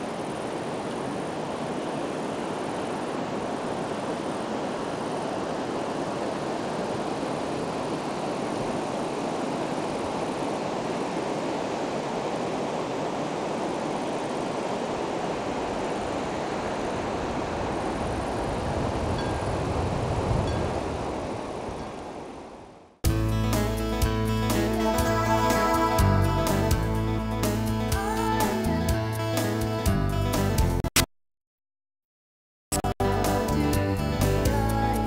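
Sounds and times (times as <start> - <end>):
river current rushing: 0.0 - 29.7.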